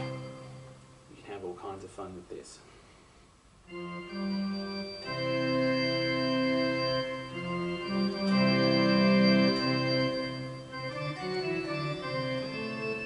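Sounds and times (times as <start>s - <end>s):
synthesized organ chords: 0.0s - 1.1s, 3.6s - 13.0s.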